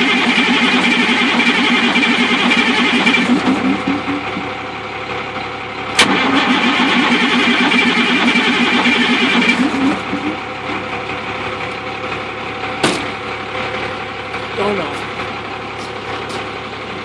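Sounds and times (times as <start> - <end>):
diesel engine cranking: 0.0 - 17.0.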